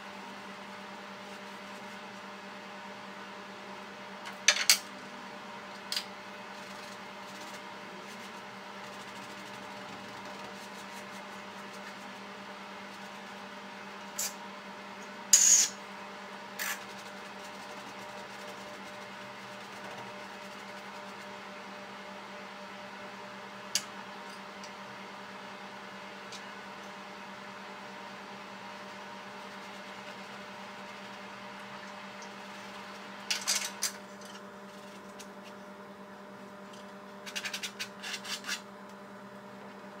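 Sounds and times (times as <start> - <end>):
machine room hum: 0.0 - 40.0.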